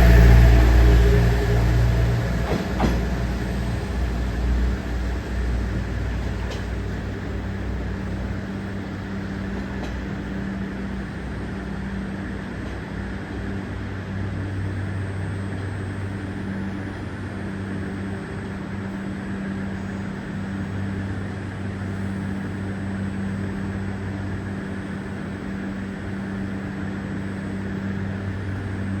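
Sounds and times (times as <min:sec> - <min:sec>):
train humming: 0:00.0 - 0:29.0.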